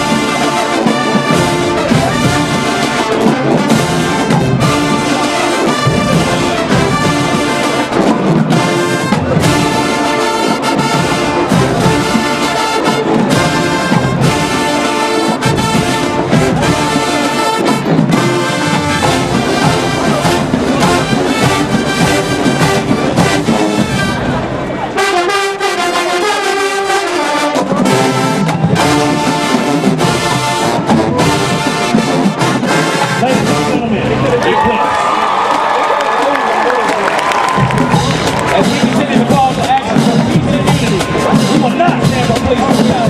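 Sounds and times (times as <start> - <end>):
steady drum beat: 0.0 - 24.5, 27.5 - 34.1, 37.1 - 43.0
marching band playing: 0.0 - 43.0
trombones and trumpets: 0.0 - 43.0.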